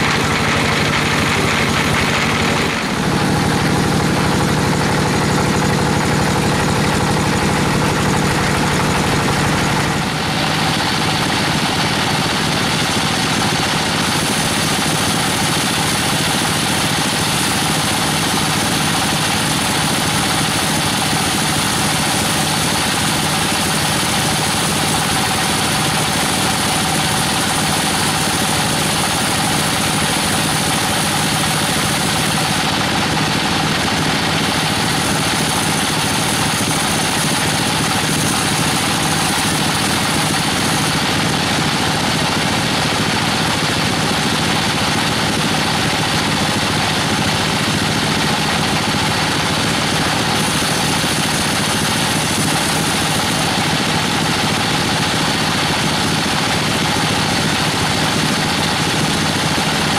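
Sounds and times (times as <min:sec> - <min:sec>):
band saw cutting log: 0:00.0 - 0:43.4, 0:46.5 - 0:54.9.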